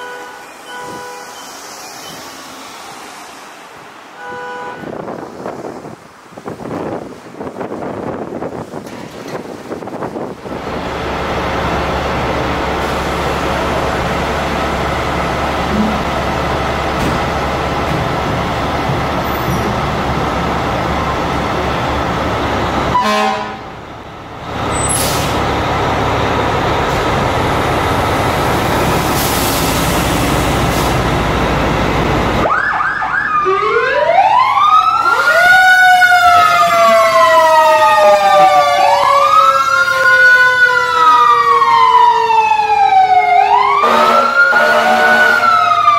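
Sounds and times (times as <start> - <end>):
sirens wailing: 0.0 - 8.6, 10.2 - 45.9
diesel engines running: 0.0 - 45.9.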